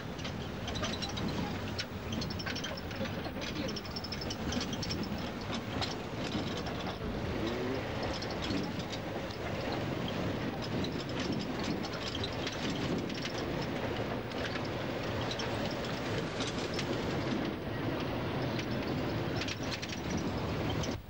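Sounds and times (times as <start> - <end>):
bus cabin rattling: 0.0 - 21.0
bus engine and road drone: 0.0 - 21.0.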